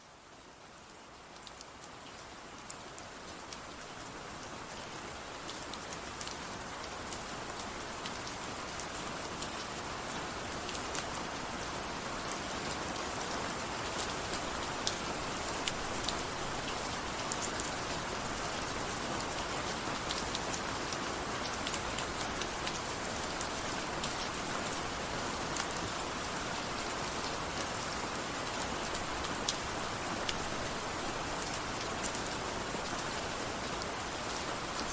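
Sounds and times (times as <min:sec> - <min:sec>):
steady rain falling: 0:00.0 - 0:34.9
raindrops ticking on a surface: 0:00.1 - 0:34.9.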